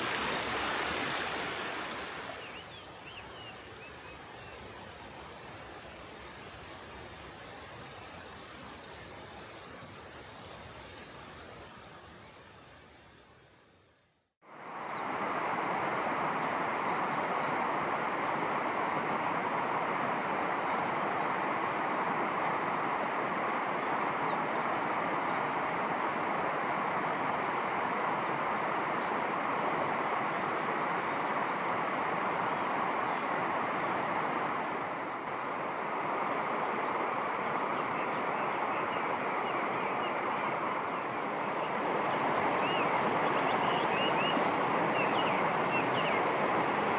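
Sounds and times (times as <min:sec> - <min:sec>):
flowing water rushing: 0:00.0 - 0:12.5, 0:14.7 - 0:46.9.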